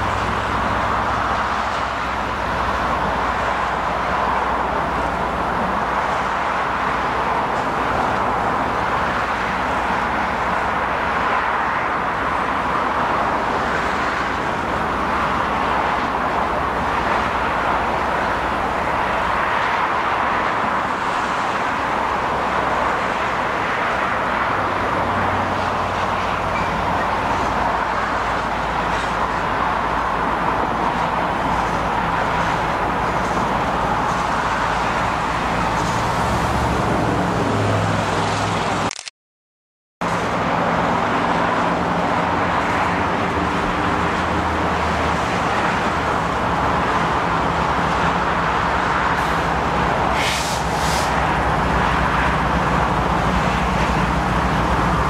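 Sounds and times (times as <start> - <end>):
diesel locomotive hum: 0.0 - 38.9, 40.0 - 55.0
freeway traffic: 0.0 - 39.1, 40.0 - 55.0.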